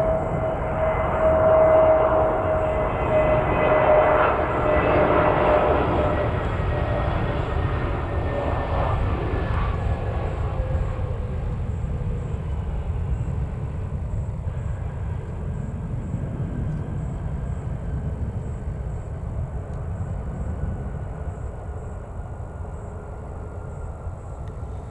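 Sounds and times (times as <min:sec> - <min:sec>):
faint jet engine whine: 0:00.0 - 0:24.9
jet engine rumble: 0:00.0 - 0:24.9.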